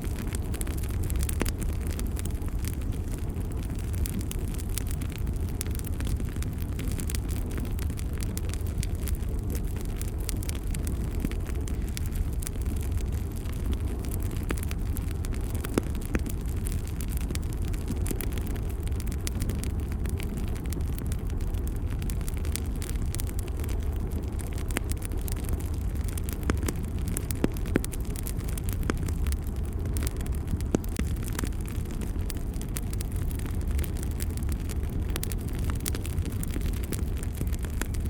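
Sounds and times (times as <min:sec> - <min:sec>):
fire crackling and popping: 0:00.0 - 0:38.0
flames rushing: 0:00.0 - 0:38.0.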